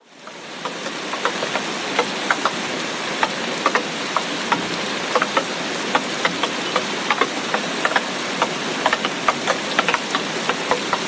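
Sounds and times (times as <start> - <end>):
heavy rain hissing: 0.0 - 11.0
large raindrops tapping: 0.0 - 11.0.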